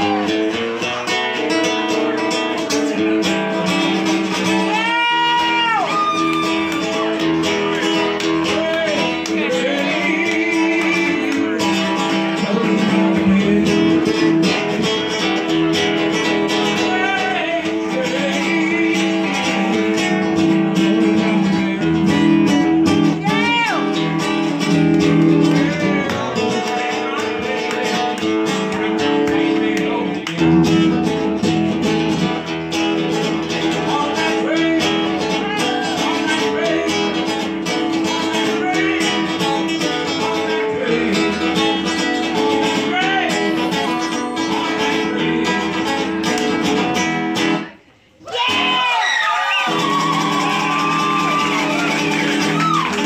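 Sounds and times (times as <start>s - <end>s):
man singing: 0.0s - 47.2s
acoustic guitar playing: 0.0s - 48.8s, 49.6s - 53.0s.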